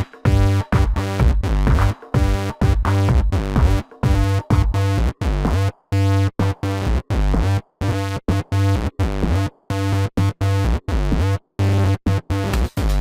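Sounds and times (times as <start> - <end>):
electro house music: 0.0 - 13.0.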